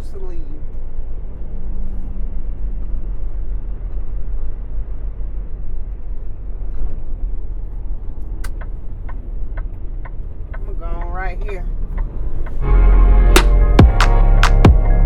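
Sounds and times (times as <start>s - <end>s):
diesel truck engine rumble: 0.0s - 15.0s.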